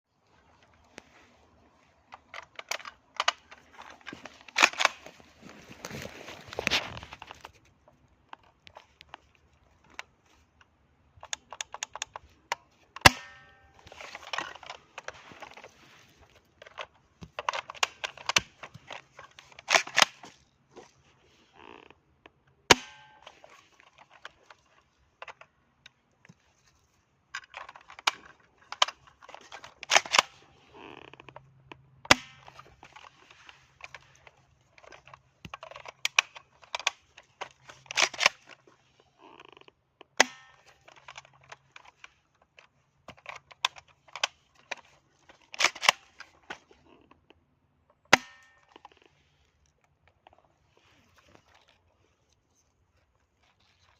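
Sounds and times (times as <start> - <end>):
clattering handling and loading: 0.5 - 53.9.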